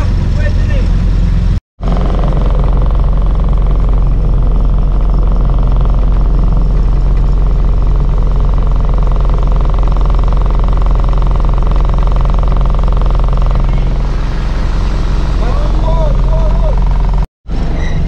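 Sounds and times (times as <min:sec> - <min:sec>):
car engine running: 0:00.0 - 0:17.3.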